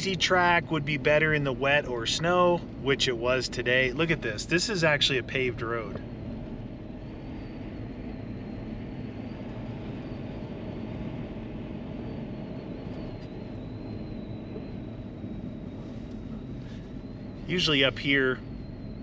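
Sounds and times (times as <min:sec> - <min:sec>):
engine and tyre drone: 0:00.0 - 0:19.0
faint high thin whine: 0:00.0 - 0:19.0.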